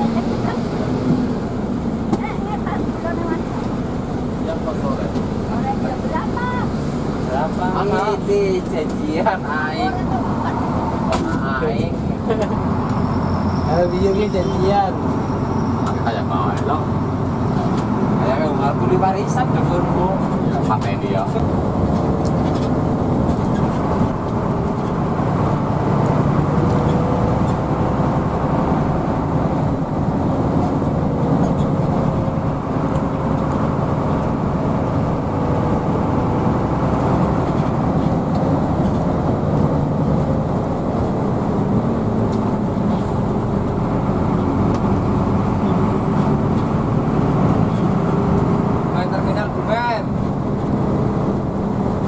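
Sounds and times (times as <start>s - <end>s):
bus engine and road noise: 0.0s - 52.0s.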